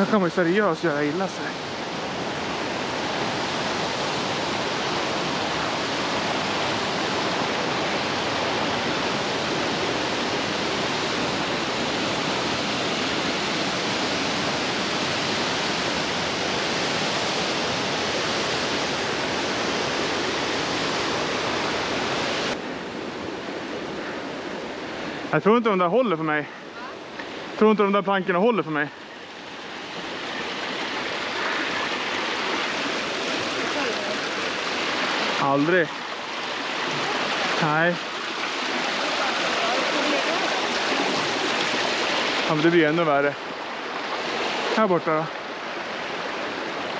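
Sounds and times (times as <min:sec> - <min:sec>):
river rapids rushing: 0:00.0 - 0:46.9.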